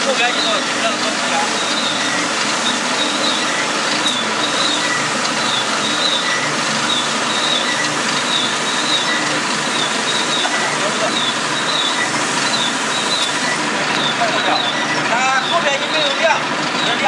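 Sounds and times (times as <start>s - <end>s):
screw press machine running: 0.0s - 17.0s.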